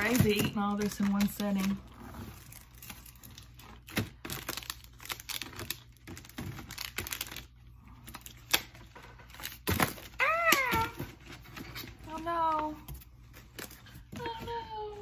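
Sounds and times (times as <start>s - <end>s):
plastic wrapper crinkling: 0.0s - 14.2s.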